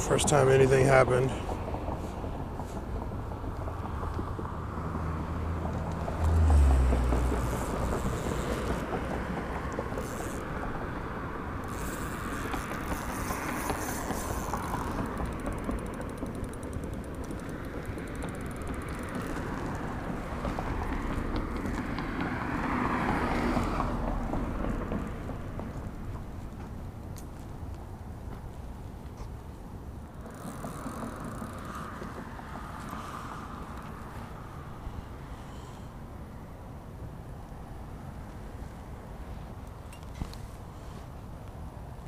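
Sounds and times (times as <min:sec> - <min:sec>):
cars passing: 0:00.0 - 0:41.8.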